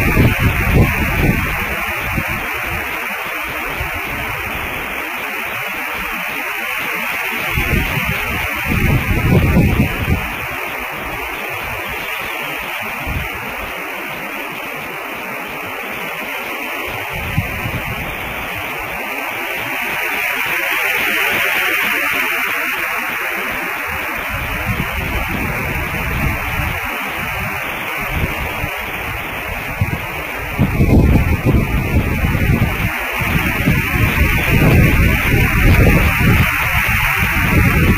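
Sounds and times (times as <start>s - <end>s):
microphone hiss: 0.0s - 37.9s
wind rumbling on microphone: 0.0s - 37.9s.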